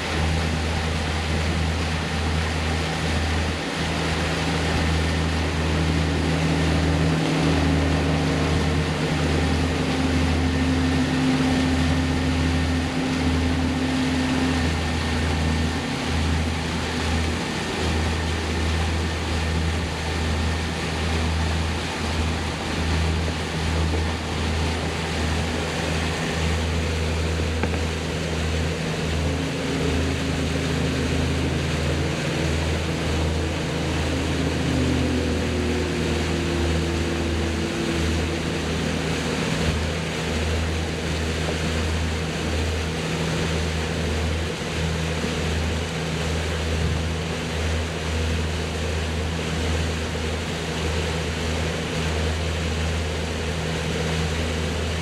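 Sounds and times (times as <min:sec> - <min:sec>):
motorboat engine running: 0:00.0 - 0:55.0
rushing water: 0:00.0 - 0:55.0.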